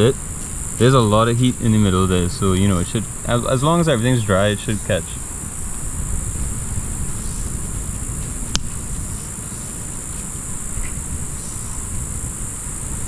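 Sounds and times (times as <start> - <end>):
high-pitched insect chorus: 0.0 - 13.0
low steady rumble: 0.0 - 13.0.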